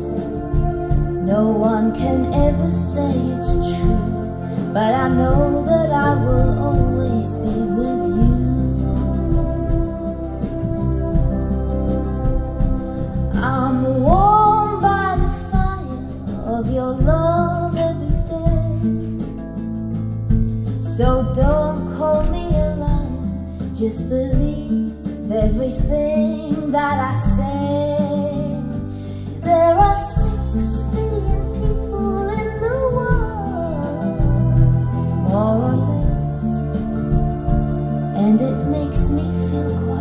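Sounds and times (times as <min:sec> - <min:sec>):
woman singing: 0:00.0 - 0:19.6, 0:20.8 - 0:40.0
guitar: 0:00.0 - 0:40.0.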